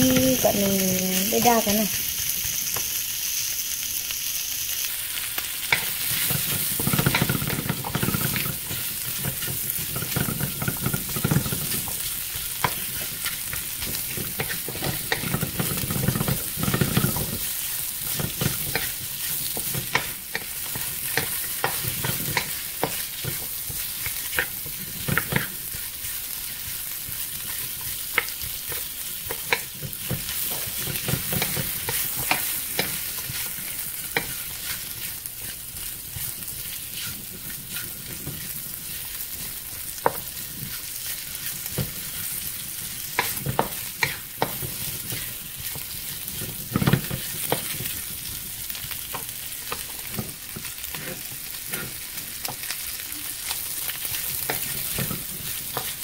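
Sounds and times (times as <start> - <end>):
pork sizzling in a hot pan: 0.0 - 56.0
wooden spatula scraping: 5.7 - 48.1, 49.1 - 52.7, 53.4 - 56.0.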